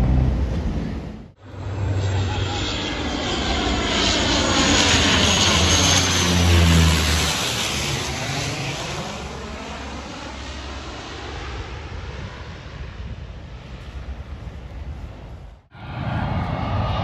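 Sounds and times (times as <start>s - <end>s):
propeller airplane passing overhead: 0.0s - 17.0s.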